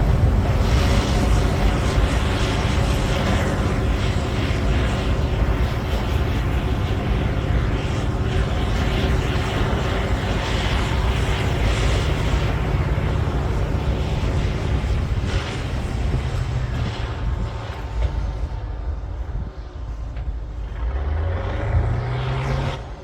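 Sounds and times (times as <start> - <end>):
bulldozer diesel engine droning: 0.0 - 23.0.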